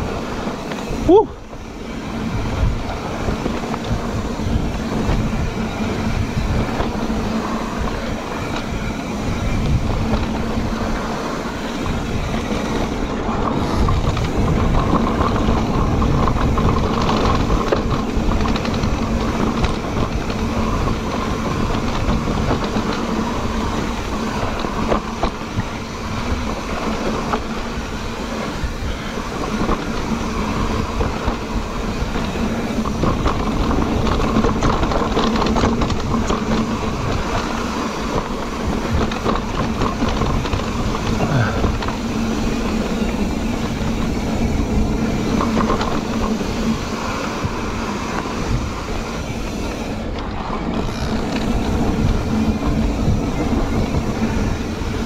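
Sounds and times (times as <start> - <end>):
bike rattling: 0.0 - 55.0
tyre and ground rumble: 0.0 - 55.0
wind on microphone: 0.0 - 55.0.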